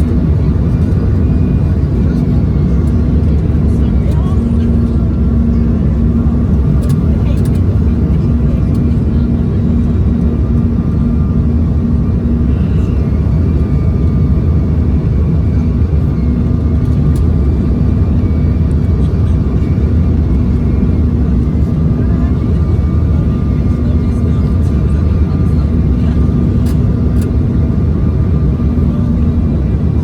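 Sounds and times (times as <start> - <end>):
constant low hum: 0.0 - 30.0
jet engine drone in cabin: 0.0 - 30.0.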